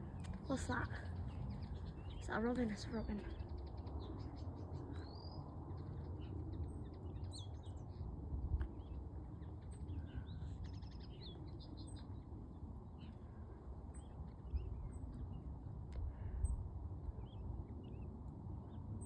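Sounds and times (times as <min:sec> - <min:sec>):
songbirds chirping and trilling: 0:00.0 - 0:19.0
steady low rumble: 0:00.0 - 0:19.0.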